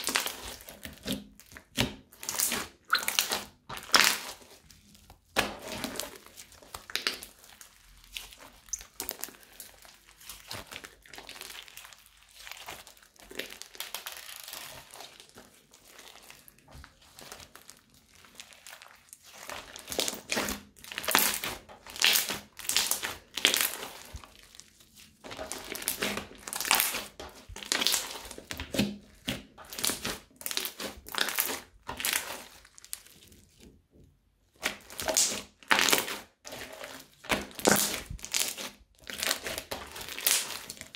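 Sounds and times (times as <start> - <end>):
crunchy slime crackling: 0.0 - 33.7, 34.5 - 40.9.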